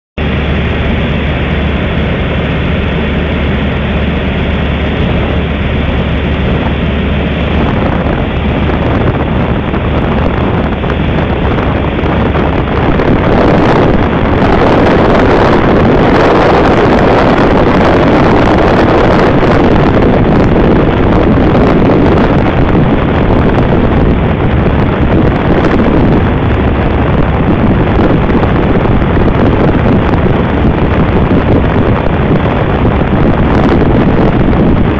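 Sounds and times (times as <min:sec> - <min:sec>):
piston engine drone: 0:00.2 - 0:34.9
wind on microphone: 0:00.2 - 0:34.9.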